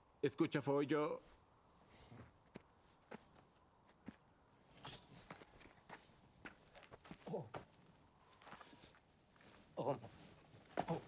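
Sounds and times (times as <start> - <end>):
soft footsteps on dirt: 1.2 - 11.0.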